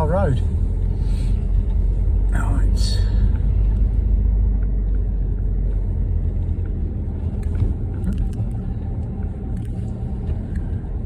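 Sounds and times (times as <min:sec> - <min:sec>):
car rumble from inside: 0:00.0 - 0:11.0
storm wind buffeting car: 0:00.0 - 0:11.0.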